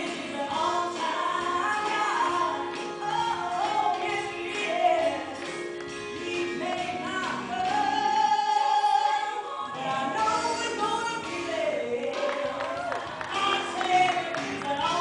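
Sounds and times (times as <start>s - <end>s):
musical accompaniment: 0.0s - 15.0s
woman singing into microphone: 0.0s - 15.0s.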